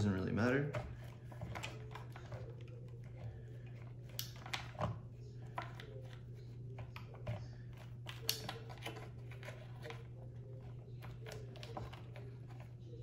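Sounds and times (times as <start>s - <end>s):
clicks taps and rustling of wires: 0.0s - 12.8s.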